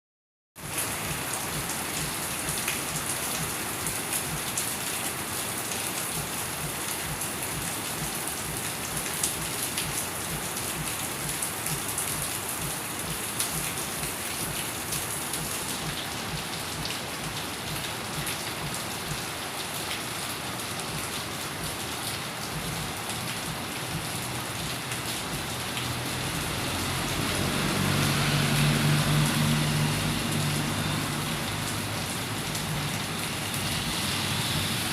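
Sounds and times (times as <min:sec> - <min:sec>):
steady rain falling: 0:00.6 - 0:34.9.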